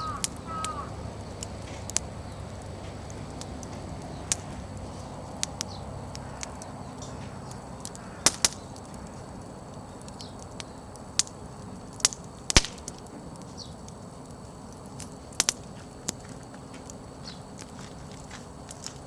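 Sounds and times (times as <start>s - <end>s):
firewood popping: 0.0s - 19.0s
flames hissing: 0.0s - 19.0s.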